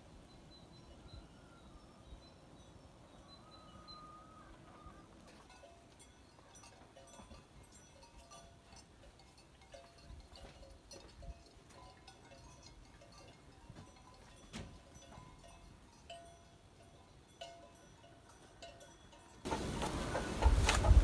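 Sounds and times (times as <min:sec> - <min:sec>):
livestock bells clinking: 0:00.2 - 0:21.0.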